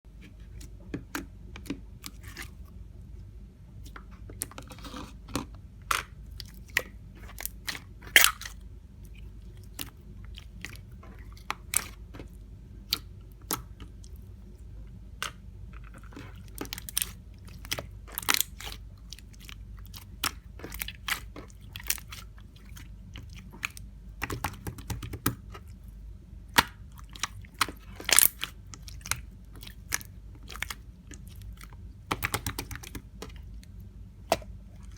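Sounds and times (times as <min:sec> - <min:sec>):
low steady hum: 0:00.1 - 0:34.9.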